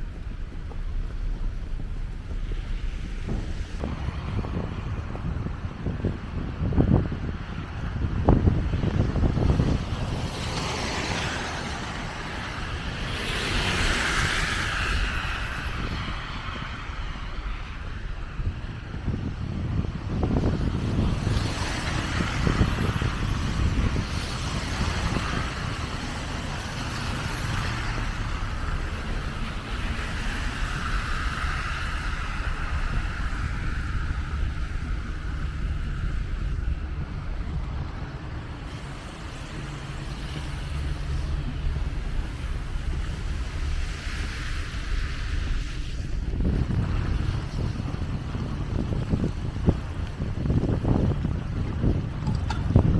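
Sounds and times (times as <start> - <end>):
storm wind buffeting microphone: 0.0 - 52.9.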